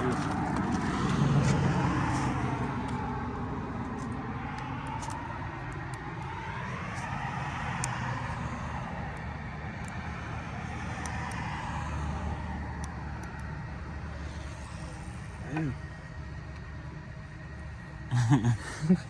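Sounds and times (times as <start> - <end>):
motor vehicle running: 0.0 - 19.0.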